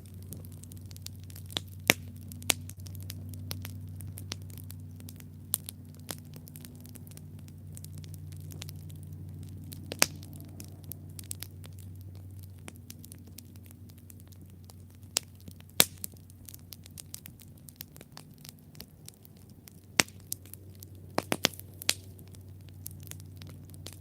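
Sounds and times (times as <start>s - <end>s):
campfire crackling and popping: 0.0s - 24.0s
low steady hum: 0.0s - 24.0s.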